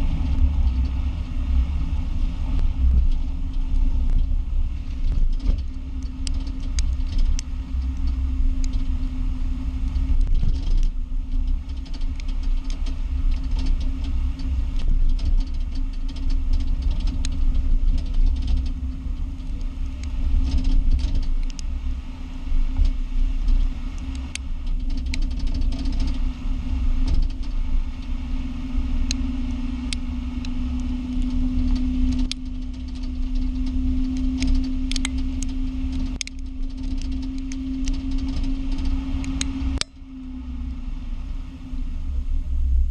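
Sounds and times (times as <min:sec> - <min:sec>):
car driving: 0:00.0 - 0:42.9
low road rumble: 0:00.0 - 0:42.9.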